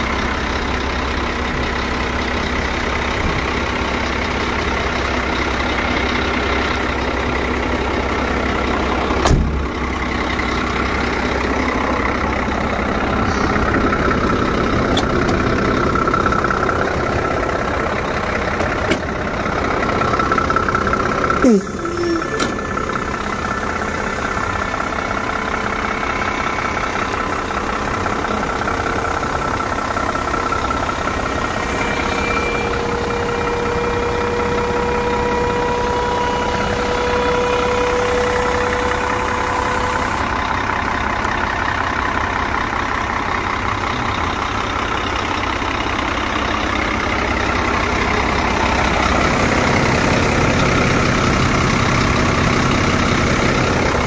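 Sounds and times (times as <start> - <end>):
truck diesel engine idling: 0.0 - 54.0.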